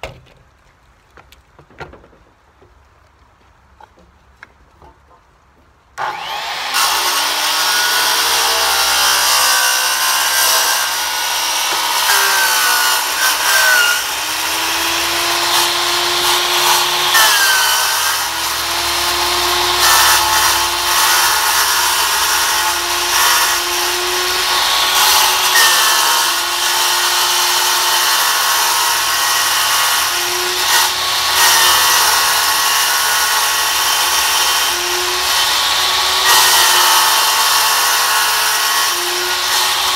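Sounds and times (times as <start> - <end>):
power saw cutting plastic: 6.0 - 39.9.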